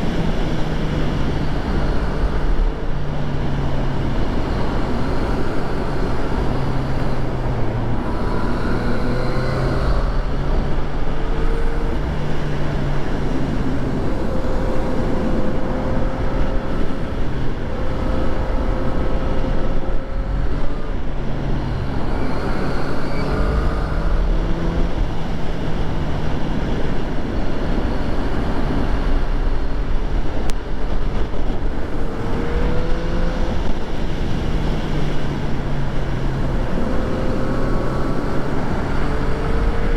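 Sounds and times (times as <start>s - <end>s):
heavy wind noise: 0.0s - 39.9s
motorcycle engine running: 0.0s - 39.9s
road noise: 0.0s - 39.9s.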